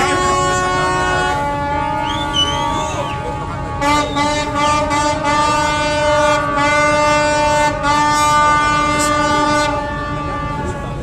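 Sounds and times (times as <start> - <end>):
ship's horn blast: 0.0 - 11.0.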